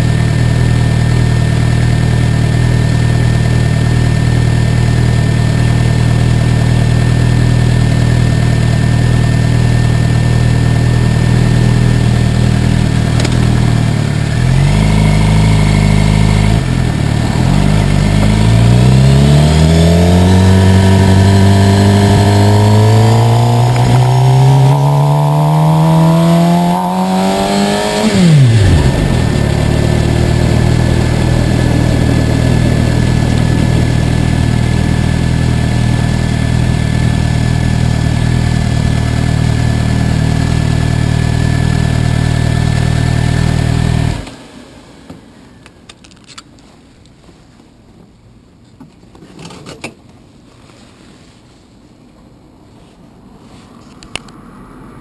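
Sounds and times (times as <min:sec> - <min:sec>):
motorcycle engine revving: 0:00.0 - 0:44.8.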